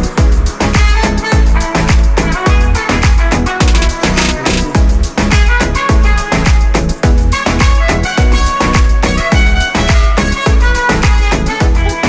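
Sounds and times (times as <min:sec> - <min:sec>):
deep kick drum: 0:00.0 - 0:12.0
electronic dance music: 0:00.0 - 0:12.0
synth melody: 0:00.0 - 0:12.0.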